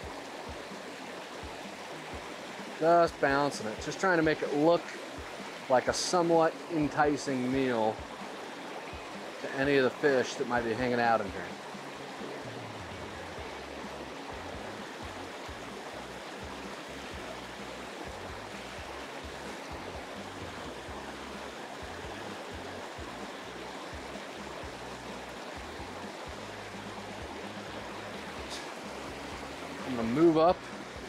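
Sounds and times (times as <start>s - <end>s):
stream water spilling over dam: 0.0s - 31.0s.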